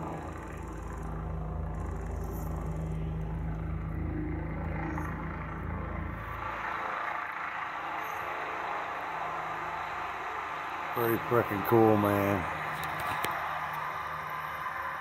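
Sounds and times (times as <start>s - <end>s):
helicopter hum: 0.0s - 15.0s
helicopter pulsing rumble: 0.0s - 15.0s.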